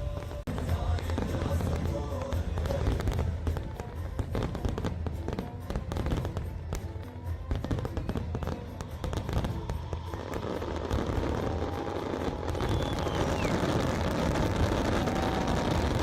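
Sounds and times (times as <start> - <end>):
fireworks bursting and crackling: 0.0 - 16.0
music with strong bass: 0.0 - 16.0.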